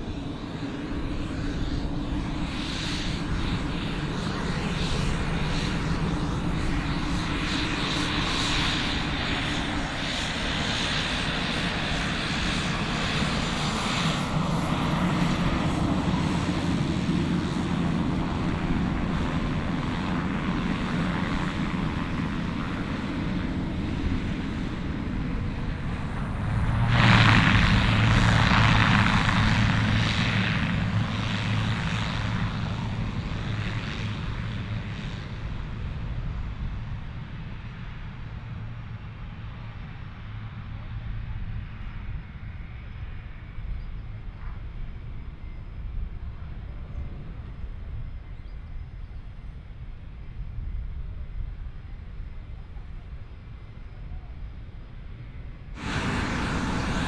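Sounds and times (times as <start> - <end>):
turboprop propeller drone: 0.0 - 57.0.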